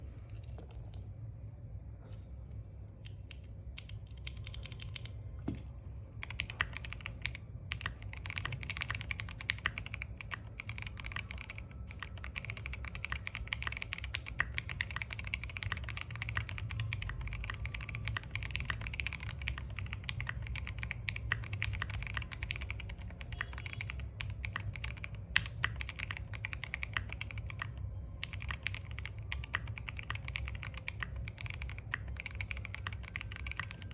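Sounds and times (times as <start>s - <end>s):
mechanical keyboard typing: 3.0s - 33.9s.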